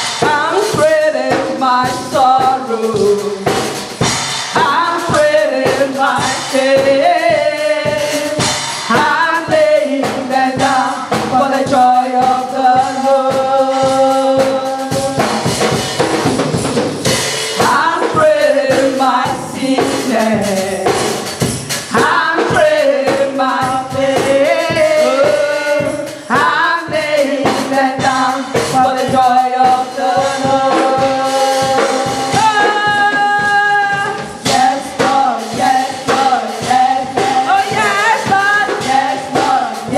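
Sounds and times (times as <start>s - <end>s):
choir singing with band: 0.0s - 39.9s
drums keeping steady beat: 0.0s - 39.9s.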